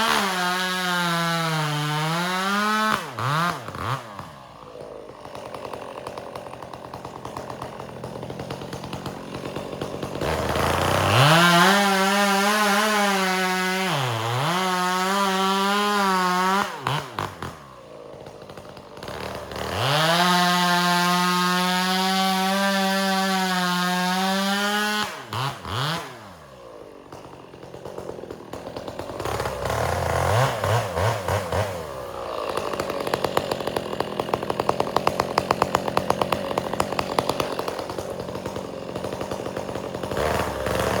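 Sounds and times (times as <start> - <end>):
chainsaw cutting firewood: 0.0 - 41.0.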